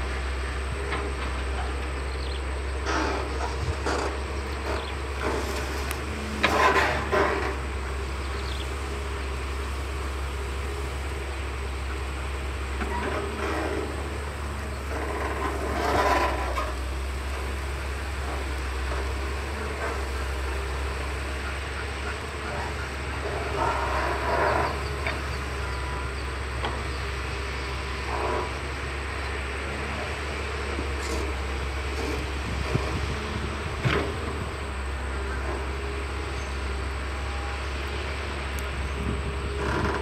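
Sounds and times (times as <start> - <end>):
excavator diesel engine droning: 0.0 - 40.0.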